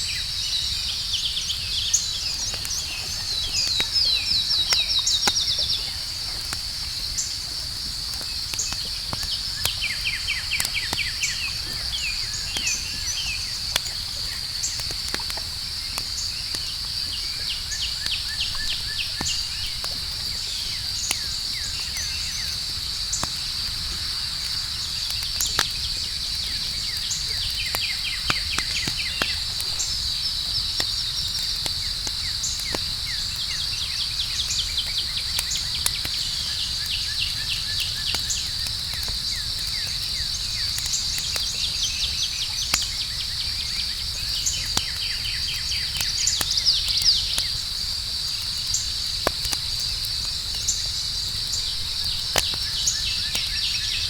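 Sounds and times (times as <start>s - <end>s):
crickets chirring: 0.0s - 54.0s
campfire crackling and popping: 0.1s - 54.0s.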